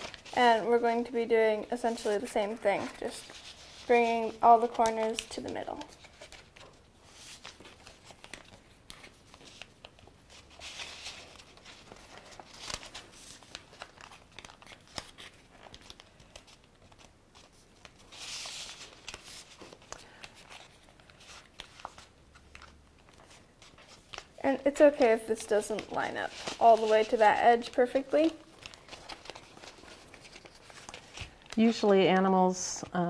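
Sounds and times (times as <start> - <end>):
fingers swishing along paper folds: 0.0 - 32.3
paper rustling and crinkling: 0.0 - 33.0.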